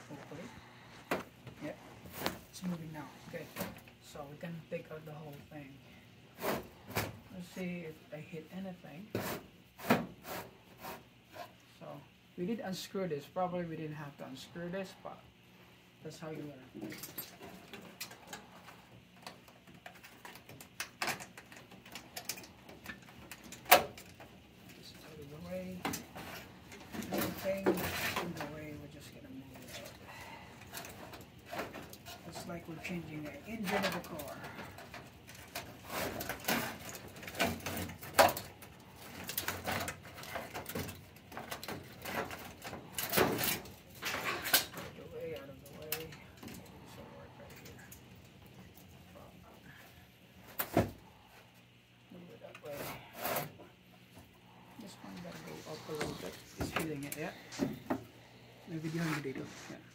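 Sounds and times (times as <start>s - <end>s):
rustling and clattering of metal parts: 0.0s - 7.9s, 16.2s - 51.8s, 52.4s - 59.9s.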